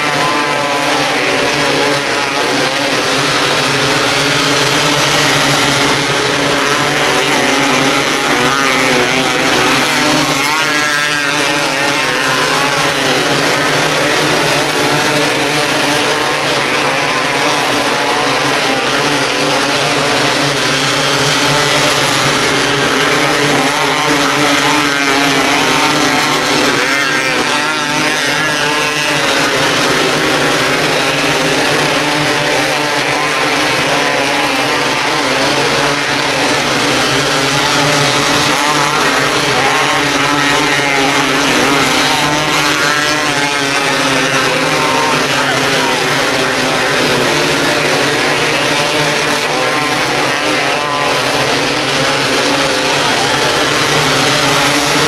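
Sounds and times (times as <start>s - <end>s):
racing car engines at high revs: 0.0s - 55.0s.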